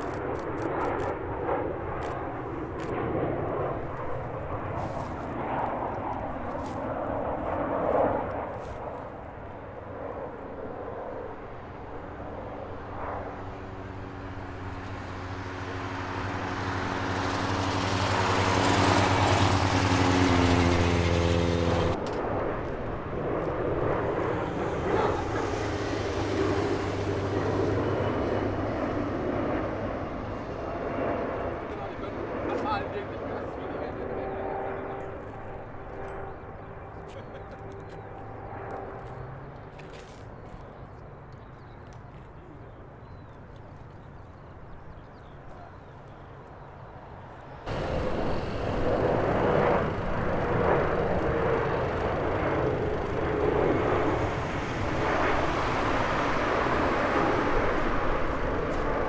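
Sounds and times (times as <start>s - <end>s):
jet engines on landing approach: 0.0s - 59.0s
lower jet drone: 0.0s - 59.0s.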